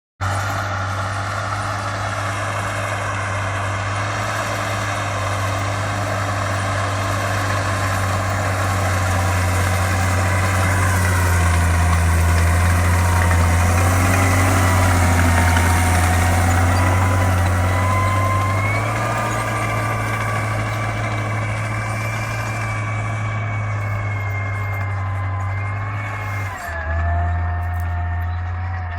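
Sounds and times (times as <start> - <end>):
diesel tractor engine running: 0.2 - 28.9.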